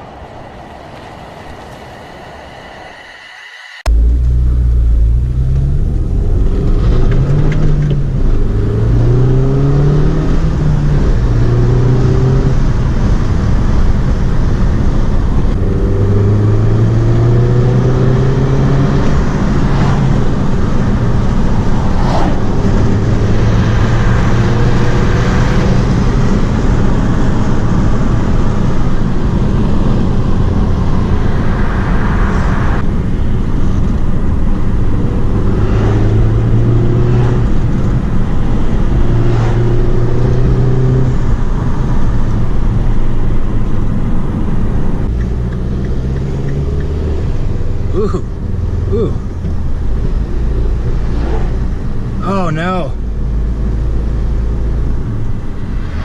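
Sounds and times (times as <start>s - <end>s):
road noise: 0.0s - 56.0s
car engine accelerating: 2.9s - 56.0s.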